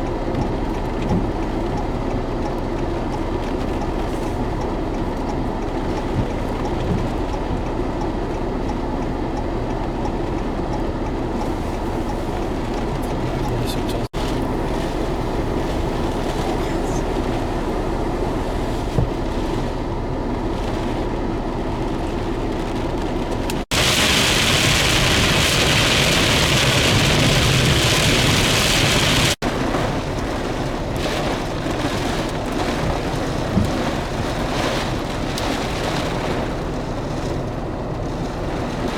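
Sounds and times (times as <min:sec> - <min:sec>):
wind and rain rushing: 0:00.0 - 0:38.9.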